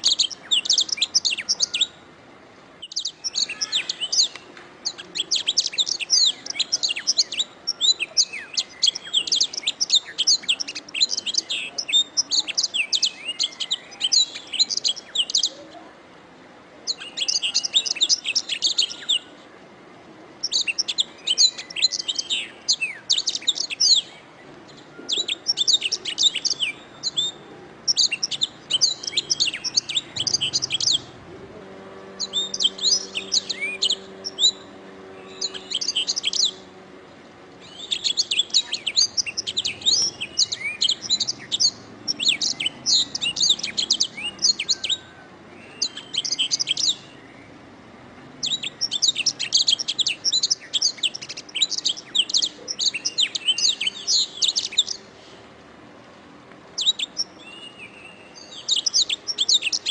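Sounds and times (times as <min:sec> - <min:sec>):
canary singing: 0:00.0 - 0:02.1, 0:02.8 - 0:15.8, 0:16.9 - 0:19.4, 0:20.4 - 0:55.1, 0:56.8 - 0:59.9.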